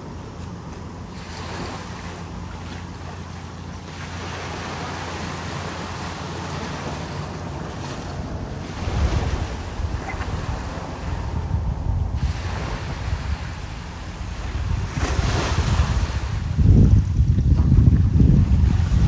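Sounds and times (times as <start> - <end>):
ocean surf washing in: 0.0 - 19.0
wind rumbling on microphone: 0.0 - 19.0.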